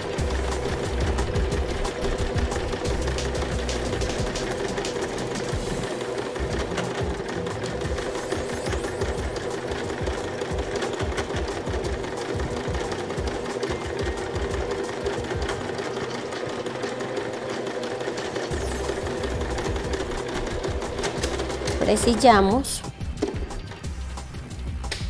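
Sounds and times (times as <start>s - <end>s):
sewing machine stitching: 0.0s - 22.9s.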